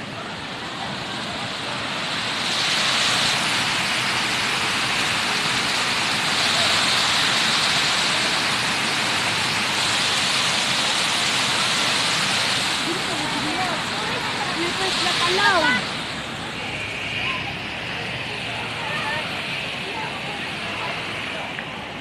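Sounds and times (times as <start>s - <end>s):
water cascading over pool edge: 0.0s - 22.0s.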